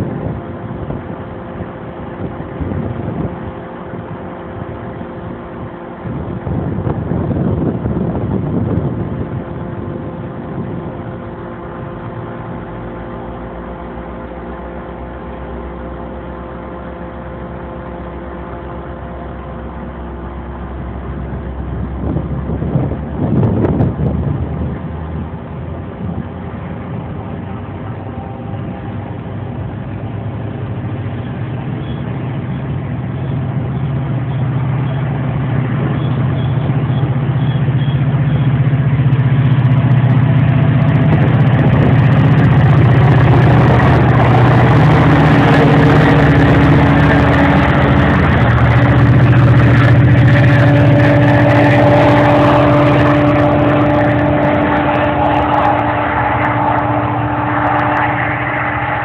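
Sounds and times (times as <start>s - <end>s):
diesel locomotive engine drone: 0.0s - 59.0s
high whine: 0.0s - 59.0s.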